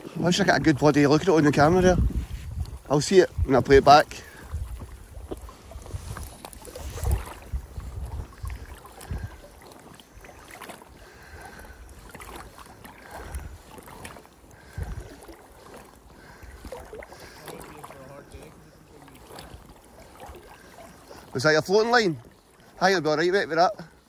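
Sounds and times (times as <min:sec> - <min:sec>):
wind buffeting microphone: 0:00.0 - 0:21.7
water lapping and splashing: 0:00.0 - 0:24.0.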